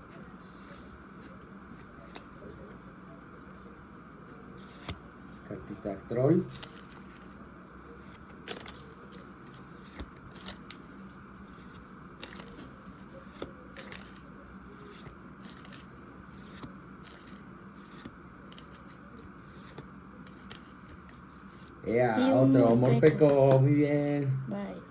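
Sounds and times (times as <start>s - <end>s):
faint steady hum: 0.0s - 24.9s
cards clicking and rustling: 0.1s - 3.7s, 4.6s - 21.8s, 22.4s - 23.7s.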